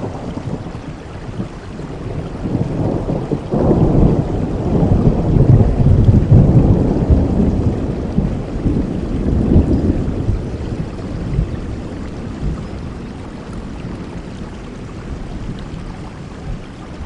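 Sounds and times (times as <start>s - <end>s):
rolling thunder: 0.0s - 16.7s
rain falling: 0.0s - 17.0s.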